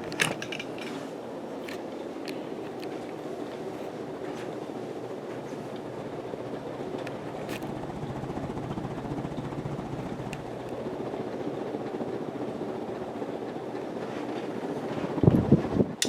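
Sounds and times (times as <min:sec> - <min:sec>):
ceiling fan whooshing: 0:00.0 - 0:16.0.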